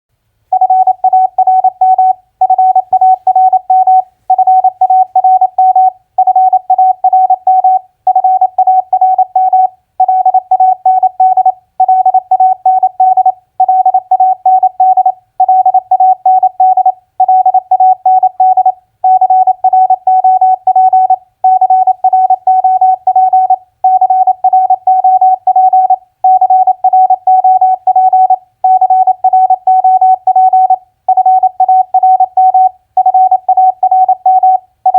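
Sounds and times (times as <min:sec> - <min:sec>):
morse code beeps: 0:00.5 - 0:34.9.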